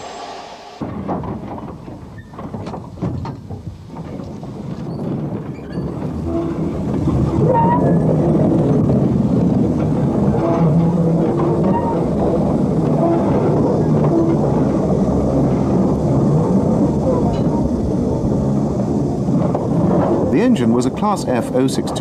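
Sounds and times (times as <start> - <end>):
steam locomotive rumbling: 0.0 - 22.0.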